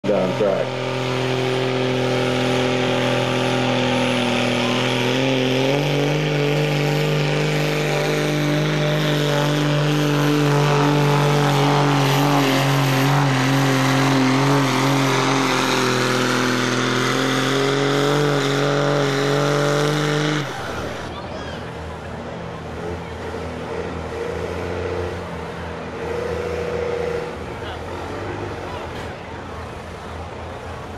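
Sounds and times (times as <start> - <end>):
diesel truck engine at high revs: 0.0 - 30.9.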